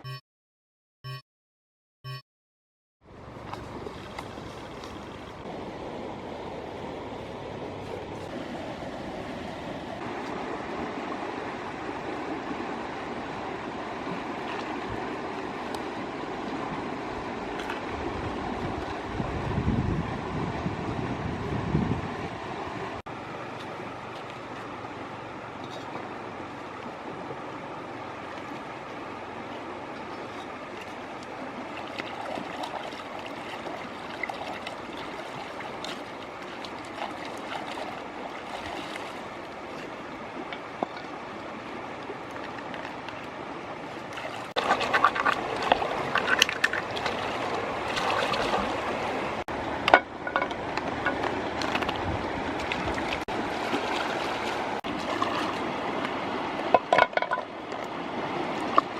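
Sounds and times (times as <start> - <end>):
stream water running: 3.0 - 58.9
water splashing: 3.2 - 19.5, 23.1 - 58.9.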